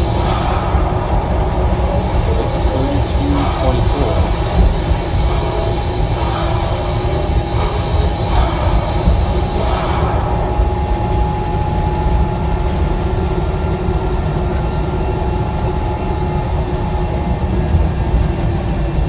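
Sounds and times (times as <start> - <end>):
bus engine rumble: 0.0 - 19.0
thin steady whine: 0.0 - 19.0.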